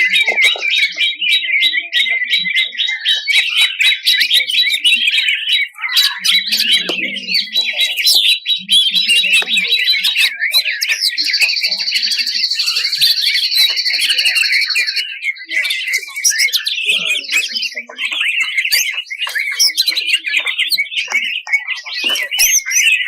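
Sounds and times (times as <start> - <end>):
bird singing rapid notes: 0.0 - 23.0.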